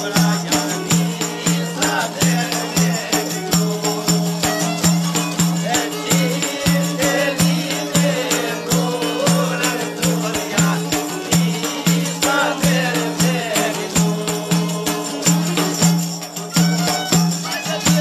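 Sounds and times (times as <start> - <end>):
fast regular drum beat: 0.0 - 18.0.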